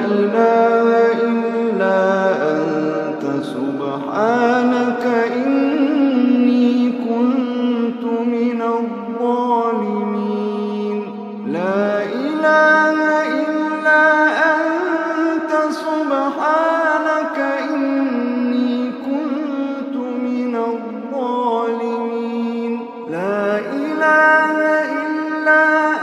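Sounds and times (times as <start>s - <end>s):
slow melodic chanting: 0.0s - 26.0s.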